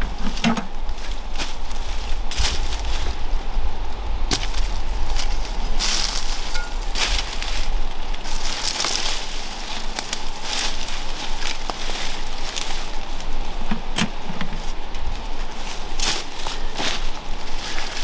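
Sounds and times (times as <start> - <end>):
leaves rustling: 0.0 - 18.0
steady low rumble: 0.0 - 18.0
vines crackling: 0.0 - 18.0.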